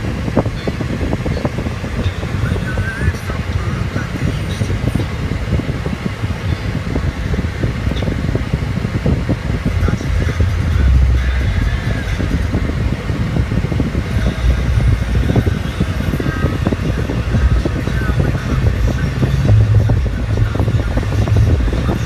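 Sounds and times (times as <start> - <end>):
car engine: 0.0 - 22.0.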